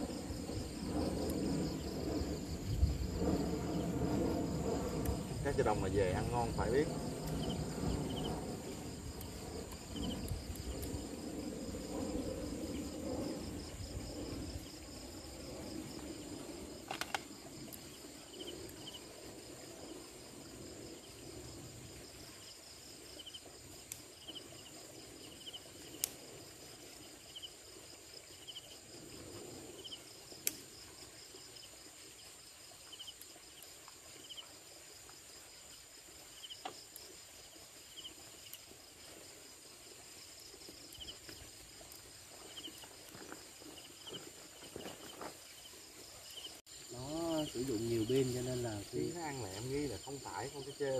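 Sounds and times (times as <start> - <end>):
crickets chirping: 0.0 - 50.9.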